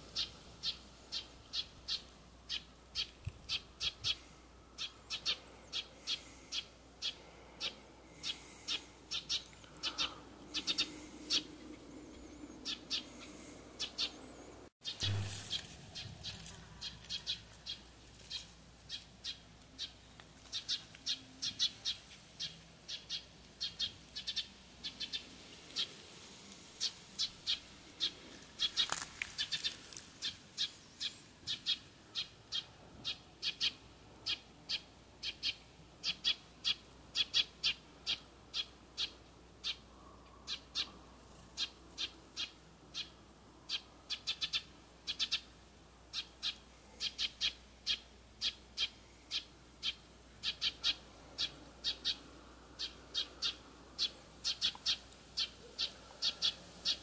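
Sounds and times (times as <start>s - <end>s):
small bird chirping: 0.2s - 26.0s, 26.8s - 45.5s, 46.1s - 57.0s.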